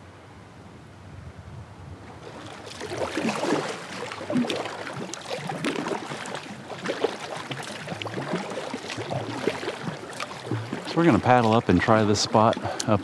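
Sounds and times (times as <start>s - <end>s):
paddle strokes in water: 2.1s - 13.0s
water splashing and dripping: 2.2s - 13.0s.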